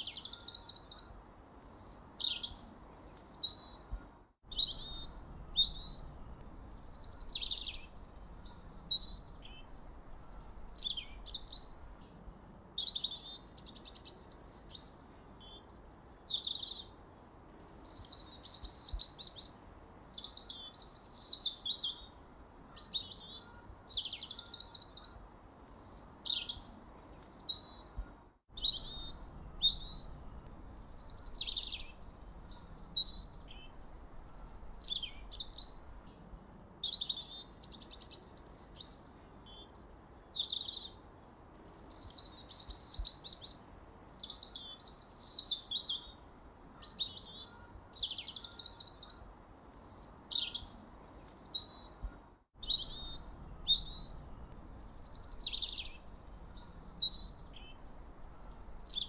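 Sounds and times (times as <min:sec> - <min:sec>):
songbirds singing: 0:00.0 - 0:59.0
faint steady hiss: 0:01.0 - 0:59.0.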